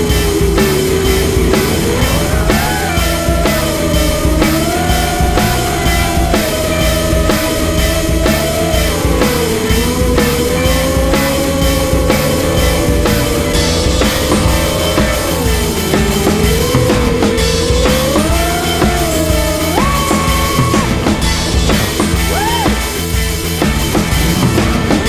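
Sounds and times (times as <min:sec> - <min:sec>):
sliding sustained tone: 0:00.0 - 0:22.3
rock music: 0:00.0 - 0:25.0.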